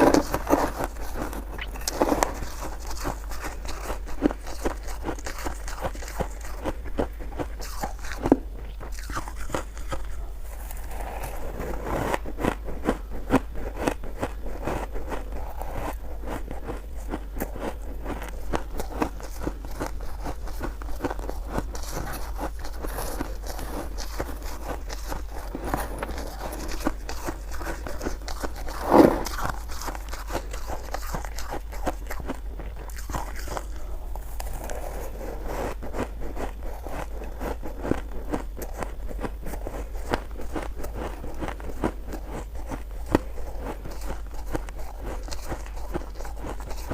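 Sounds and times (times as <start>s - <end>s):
chewing crunchy shaved ice: 0.0s - 46.9s.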